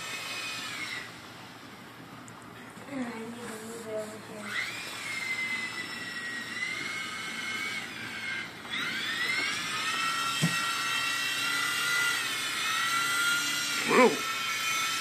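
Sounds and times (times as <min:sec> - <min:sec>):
toy helicopter rotors whining: 0:00.0 - 0:01.2, 0:03.5 - 0:15.0.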